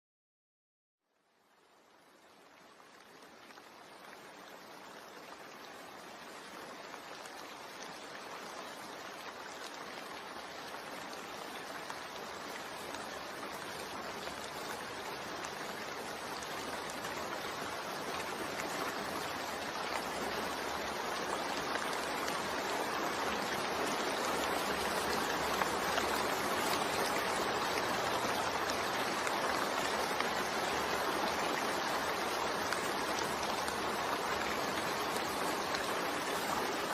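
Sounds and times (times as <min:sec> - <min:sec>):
rain hiss with white noise: 0:01.0 - 0:36.9.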